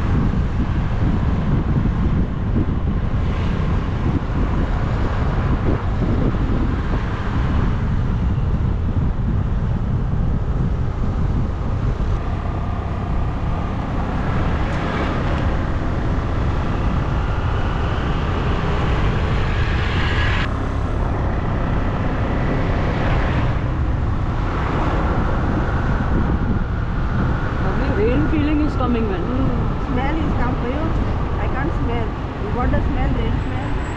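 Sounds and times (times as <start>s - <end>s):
road noise: 0.0s - 33.9s
wind rush: 0.0s - 33.9s.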